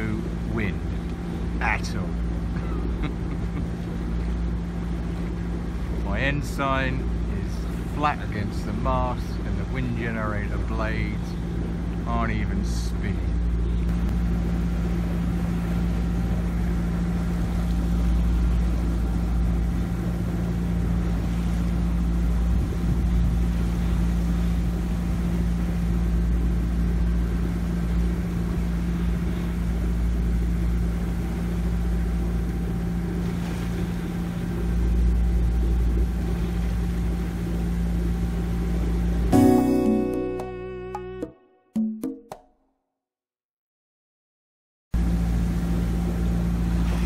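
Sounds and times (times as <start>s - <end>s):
boat engine running: 0.0s - 42.0s, 45.0s - 47.0s.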